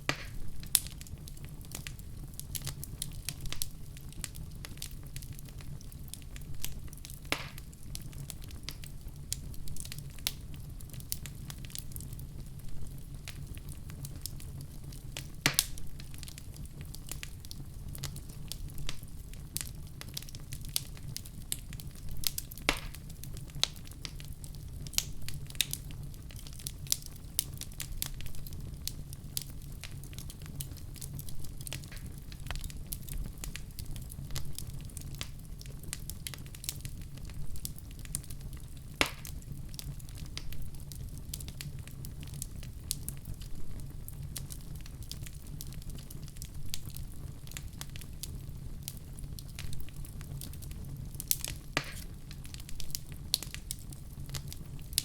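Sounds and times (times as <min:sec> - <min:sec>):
loud fire pops: 0:00.0 - 0:12.2, 0:12.8 - 0:55.0
wood fire crackling: 0:00.0 - 0:55.0.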